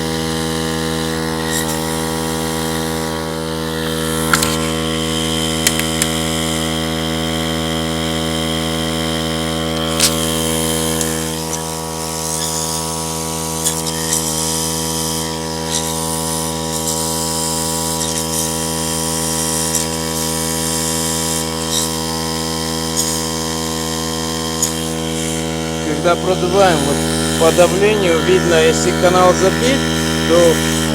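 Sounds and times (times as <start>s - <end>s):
machine hum: 0.0s - 30.9s
compressed air hissing: 3.8s - 6.3s, 8.2s - 30.9s.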